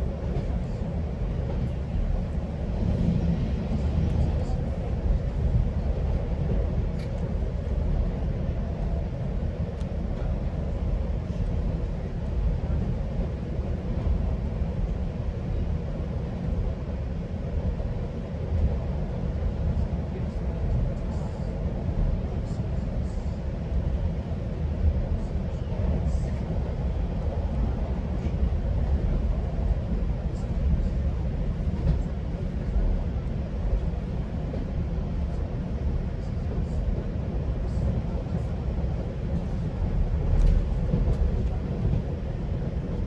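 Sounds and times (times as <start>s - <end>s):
train rumbling on track: 0.0s - 43.0s.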